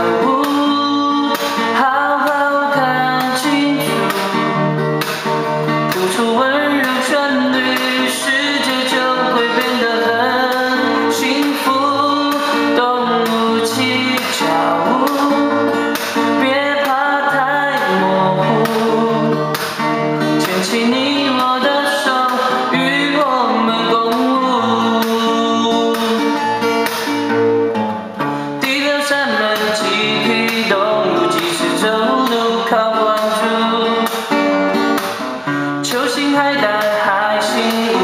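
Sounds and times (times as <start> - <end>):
guitar-led backing music: 0.0 - 38.0.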